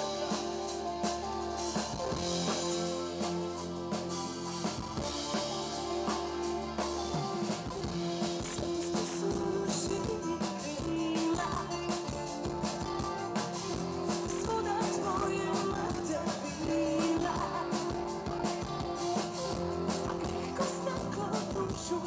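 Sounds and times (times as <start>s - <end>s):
instrumental rock band playing: 0.0s - 22.0s.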